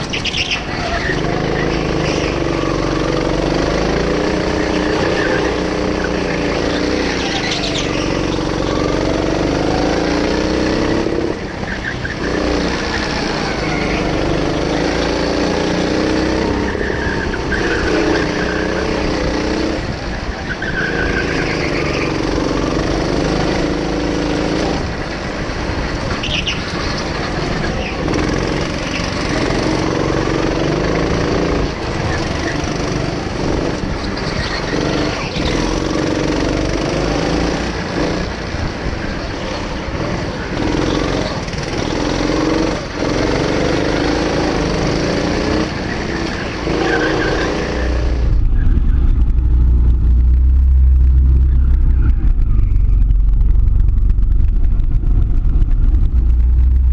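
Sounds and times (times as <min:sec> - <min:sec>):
go-kart motor running: 0:00.0 - 0:56.9.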